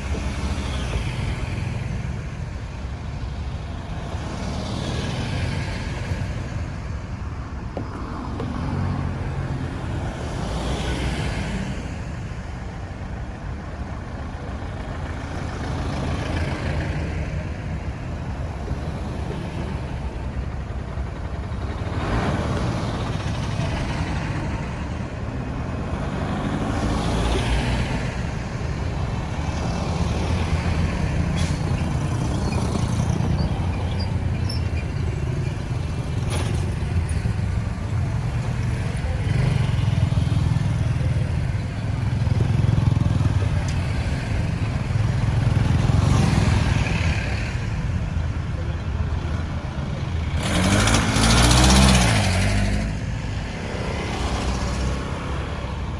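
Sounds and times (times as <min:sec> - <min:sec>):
traffic rumble: 0:00.0 - 0:55.9
vehicles passing close by: 0:00.0 - 0:55.9.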